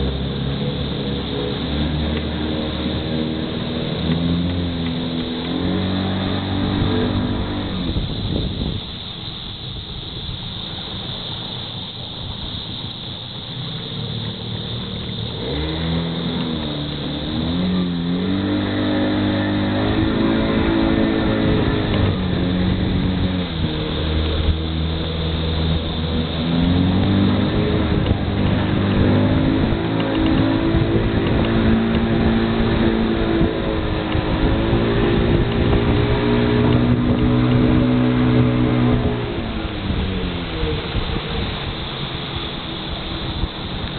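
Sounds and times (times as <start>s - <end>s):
boat motor running: 0.0s - 43.9s
rush of wind and water: 0.0s - 43.9s.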